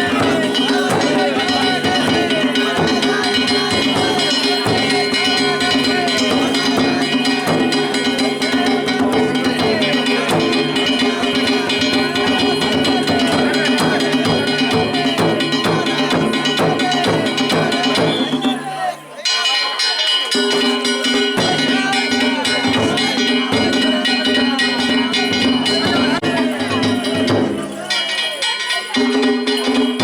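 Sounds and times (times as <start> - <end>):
taiko drums beating: 0.0 - 18.8, 19.8 - 30.0.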